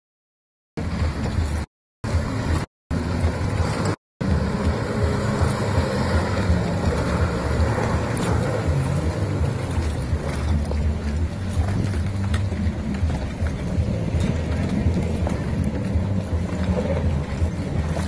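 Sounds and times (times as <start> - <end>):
jet ski engine running: 0.8 - 18.0.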